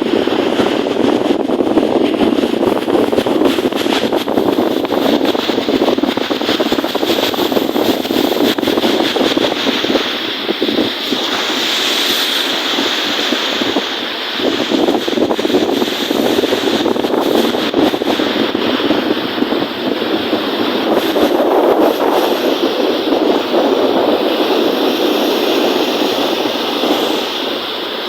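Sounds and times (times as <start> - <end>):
lake waves breaking: 0.0 - 28.0
wind buffeting microphone: 0.0 - 28.0.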